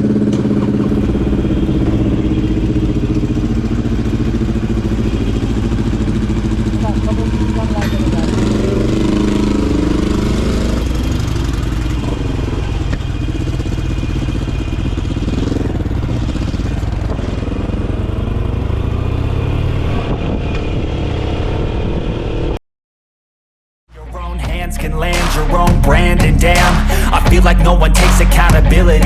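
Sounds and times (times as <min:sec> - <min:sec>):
motorcycle engine running: 0:00.0 - 0:22.5, 0:24.0 - 0:29.0.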